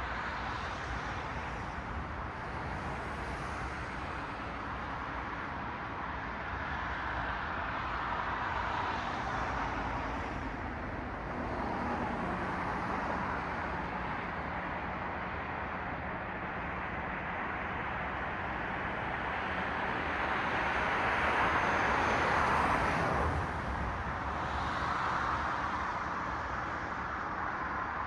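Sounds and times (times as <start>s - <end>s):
cars passing on street: 0.0s - 28.0s.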